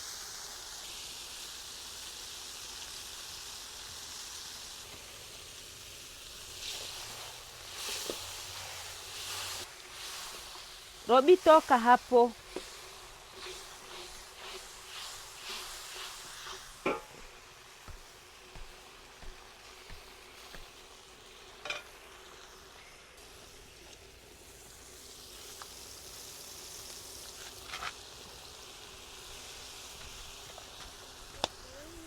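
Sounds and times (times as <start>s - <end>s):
food frying and sizzling: 0.0s - 32.0s.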